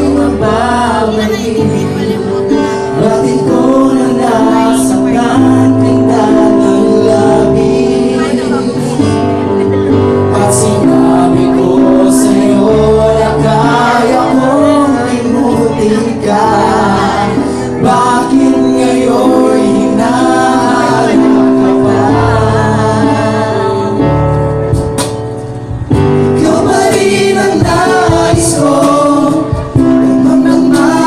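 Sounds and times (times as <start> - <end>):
male vocal group singing harmony: 0.0 - 24.3, 26.1 - 31.0
low bass notes: 0.0 - 31.0.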